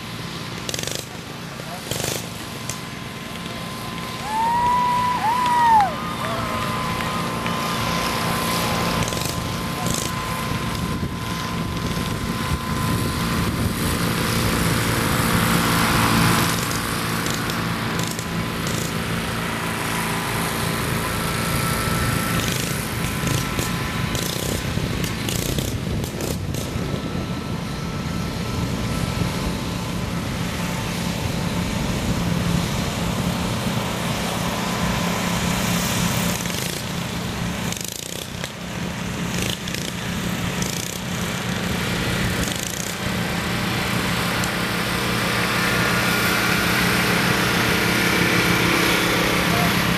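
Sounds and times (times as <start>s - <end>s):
riding lawn mower engines racing: 0.0s - 49.9s.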